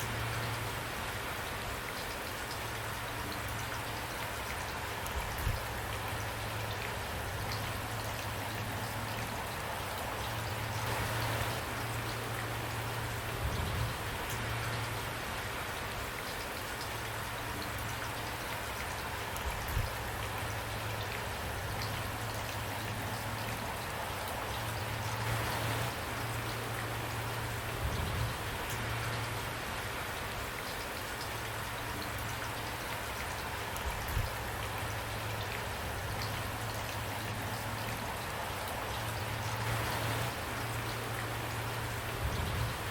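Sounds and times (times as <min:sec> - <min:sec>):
rain falling: 0:00.0 - 0:42.9.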